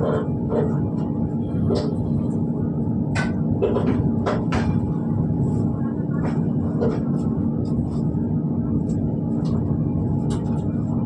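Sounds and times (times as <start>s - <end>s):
train rumble with low hum: 0.0s - 11.0s.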